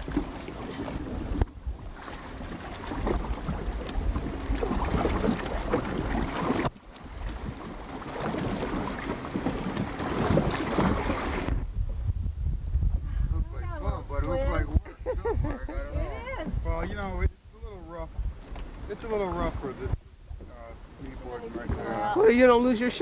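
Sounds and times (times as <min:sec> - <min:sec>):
motorboat engine rumble: 0:00.0 - 0:23.0
wind buffeting microphone: 0:00.0 - 0:23.0.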